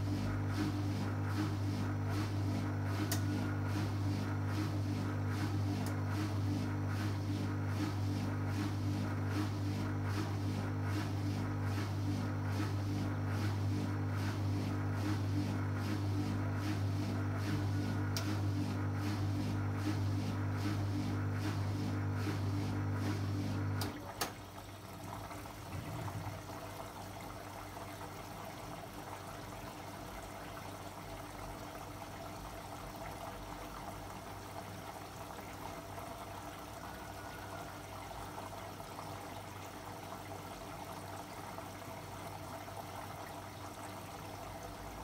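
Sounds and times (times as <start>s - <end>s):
washing machine drain pump humming: 0.0s - 45.0s.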